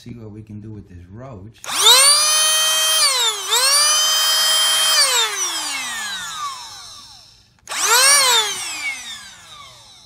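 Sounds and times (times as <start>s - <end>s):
air duster fan motor whining: 1.7s - 10.0s.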